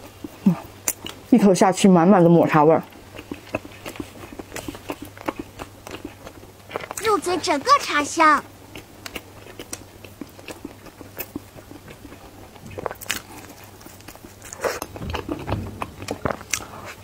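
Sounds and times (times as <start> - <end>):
person chewing bread: 0.0 - 1.3, 2.8 - 7.0, 8.5 - 17.0.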